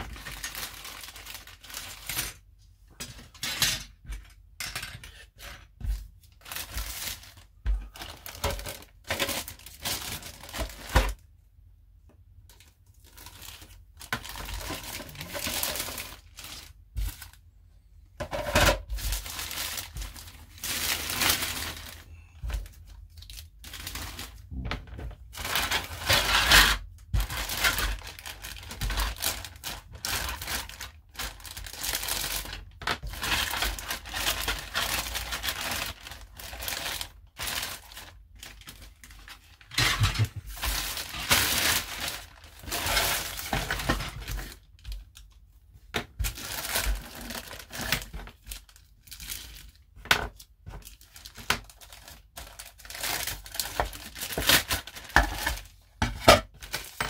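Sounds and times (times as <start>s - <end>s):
plastic bags crinkling: 0.0s - 2.5s, 6.2s - 11.2s, 12.5s - 17.5s, 18.2s - 45.4s, 46.0s - 57.0s.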